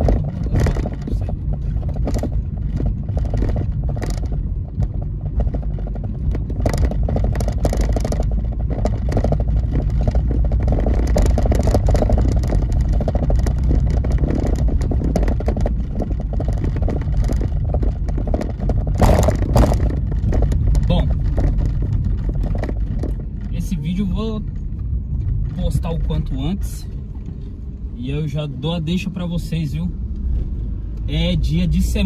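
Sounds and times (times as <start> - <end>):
car rattles and knocks: 0.0 - 32.0
engine and road rumble: 0.0 - 32.0.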